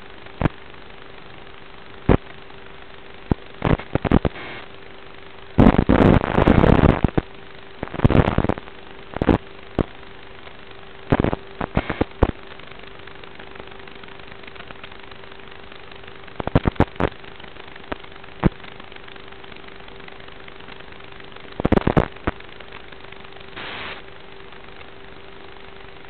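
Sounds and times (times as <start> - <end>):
crackling noise bursts: 0.0 - 26.0
faint steady hum: 0.0 - 26.0.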